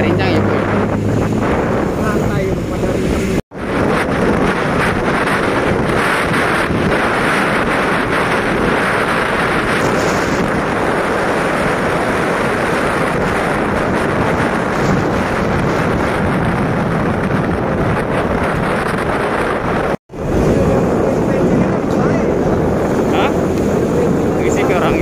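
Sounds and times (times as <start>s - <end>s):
moving vehicle road noise: 0.0s - 25.0s
wind buffeting microphone: 0.0s - 25.0s.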